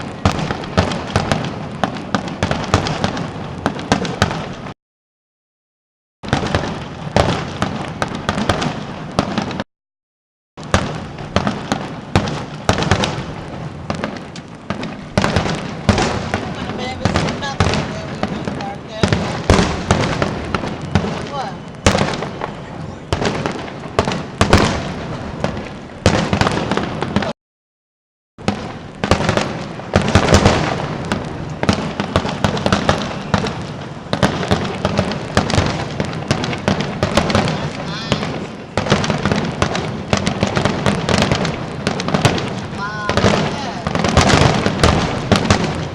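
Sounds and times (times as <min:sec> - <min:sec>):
fireworks bangs and pops: 0:00.0 - 0:04.8, 0:06.2 - 0:09.7, 0:10.6 - 0:27.4, 0:28.4 - 0:45.9.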